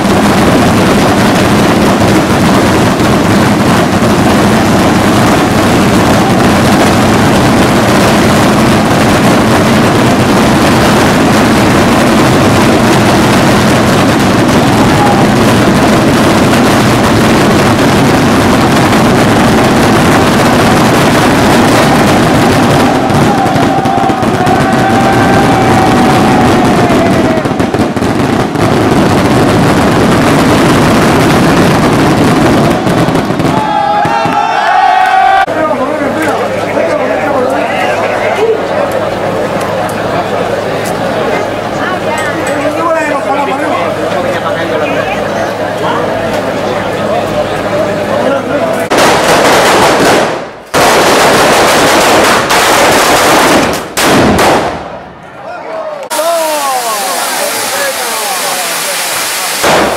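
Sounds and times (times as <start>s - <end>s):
fireworks exploding: 0.0s - 55.3s, 56.1s - 59.9s.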